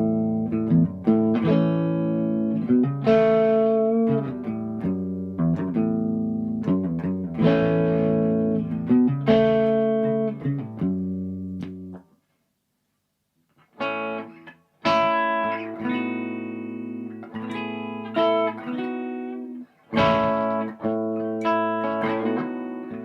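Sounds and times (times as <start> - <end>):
electric guitar chords ringing: 0.0 - 12.0, 13.8 - 23.0.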